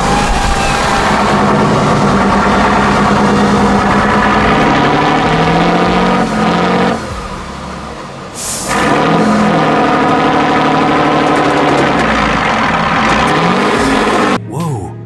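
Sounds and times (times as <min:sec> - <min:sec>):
off-road vehicle engine running: 0:00.0 - 0:14.4.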